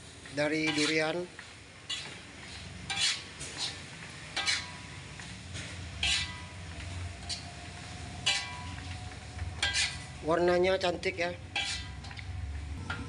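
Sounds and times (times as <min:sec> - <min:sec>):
metal spatula scraping a wok: 0:00.5 - 0:13.0.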